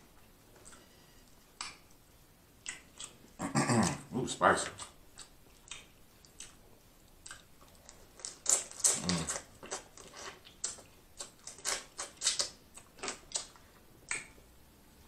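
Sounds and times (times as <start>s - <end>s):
wet chewing: 0.2s - 2.0s, 2.6s - 4.0s, 4.6s - 14.4s.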